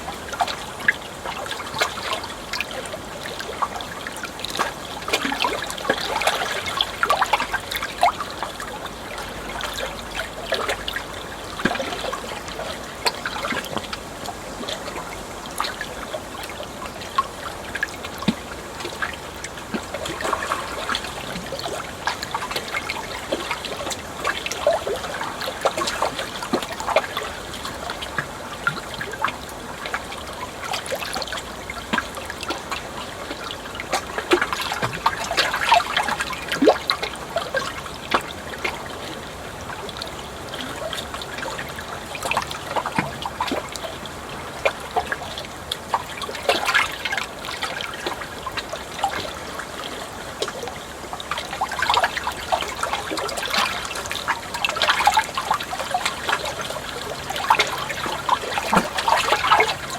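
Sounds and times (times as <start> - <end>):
small water splashes: 0.0 - 59.9
water trickling and gurgling: 0.0 - 59.9.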